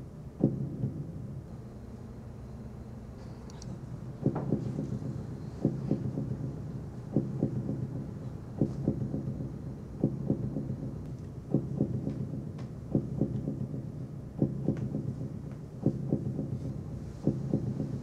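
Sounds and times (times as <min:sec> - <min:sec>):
low double thumps: 0:00.0 - 0:01.5, 0:03.7 - 0:18.0.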